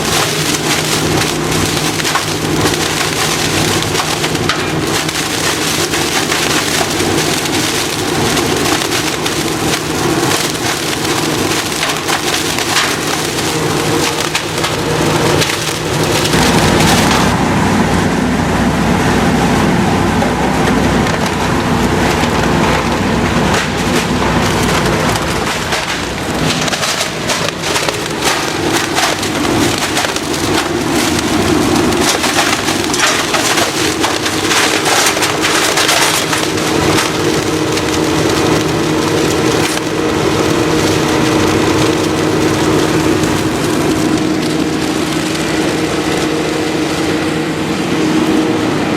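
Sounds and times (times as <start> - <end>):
shredder cracking and crunching: 0.0 - 17.4, 20.0 - 48.9
shredder motor hum: 0.0 - 48.9.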